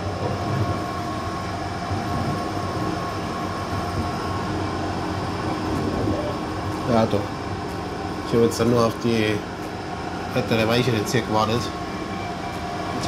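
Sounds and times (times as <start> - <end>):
faint steady whine: 0.0 - 13.0
train coach rumble and hum: 0.0 - 13.0.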